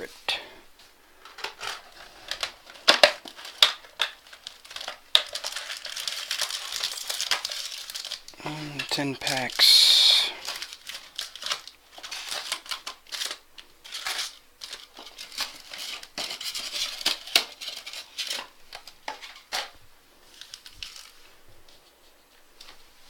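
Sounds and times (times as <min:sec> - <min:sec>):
foil wrappers crinkling: 0:01.1 - 0:23.0.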